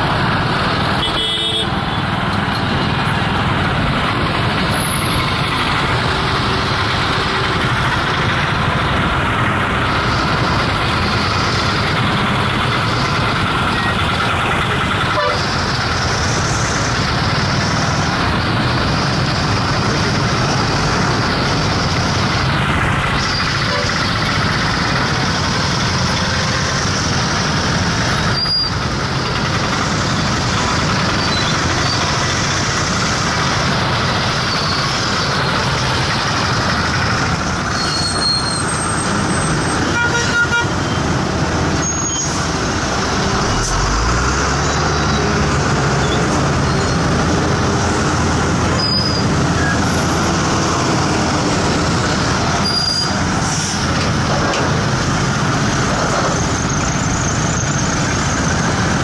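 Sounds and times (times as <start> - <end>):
heavy engine rumble: 0.0 - 59.0
traffic engines running: 0.0 - 59.0.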